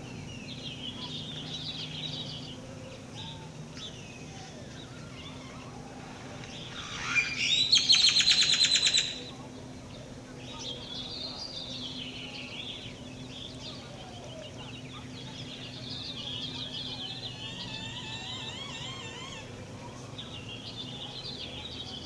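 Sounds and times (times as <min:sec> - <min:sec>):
bird chattering song: 0:00.0 - 0:22.0.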